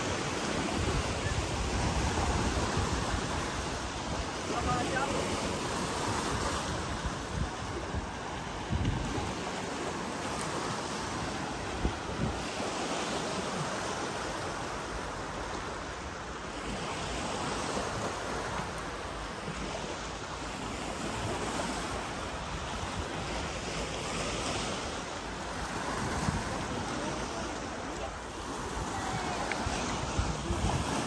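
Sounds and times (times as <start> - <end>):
wind on microphone: 0.0 - 15.8, 20.7 - 31.0
water washing against shore: 0.0 - 31.0.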